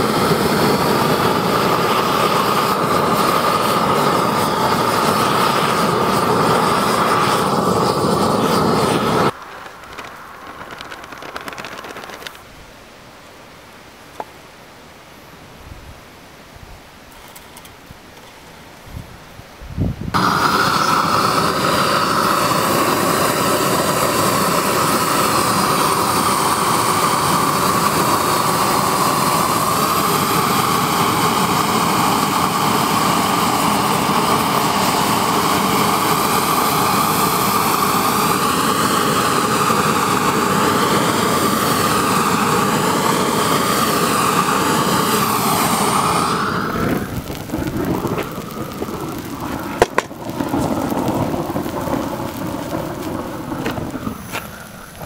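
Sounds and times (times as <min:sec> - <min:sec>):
gas torch hissing: 0:00.0 - 0:12.4, 0:20.1 - 0:55.0.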